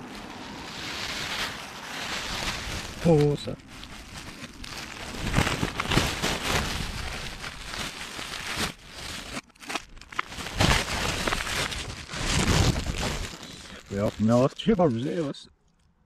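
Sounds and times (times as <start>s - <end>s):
plastic packaging crinkling: 0.0s - 15.9s.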